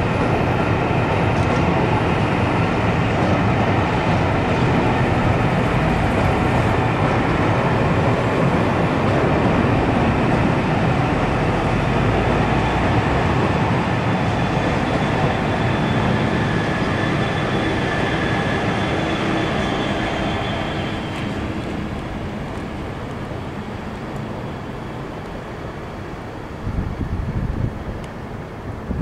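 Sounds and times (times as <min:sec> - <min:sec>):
diesel locomotive engine hum: 0:00.0 - 0:29.0
train wheels rumbling on track: 0:00.0 - 0:29.0.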